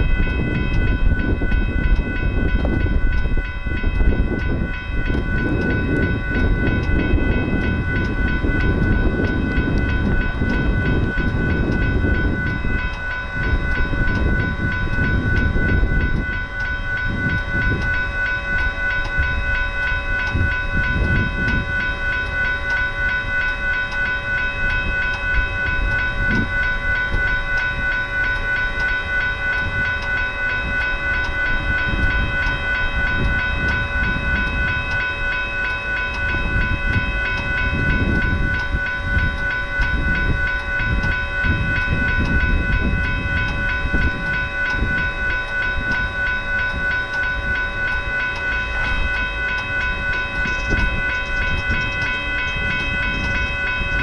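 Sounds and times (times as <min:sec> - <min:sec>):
crossing warning bells ringing: 0:00.0 - 0:54.0
low rumble of rail traffic: 0:00.0 - 0:54.0.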